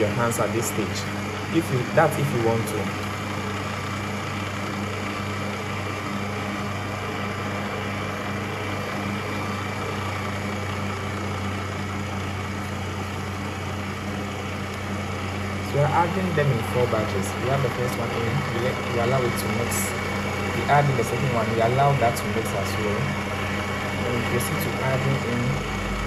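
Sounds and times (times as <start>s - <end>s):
stand mixer motor hum: 0.0s - 26.0s.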